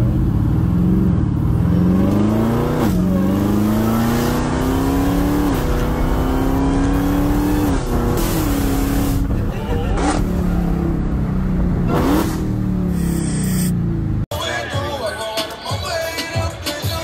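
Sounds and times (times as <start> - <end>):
car engine accelerating: 0.0 - 14.3.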